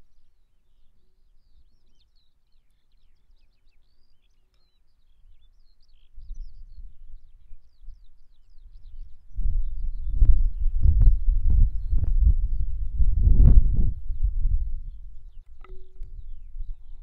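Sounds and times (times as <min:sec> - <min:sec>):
small birds chirping: 0:00.0 - 0:13.3, 0:14.0 - 0:17.0.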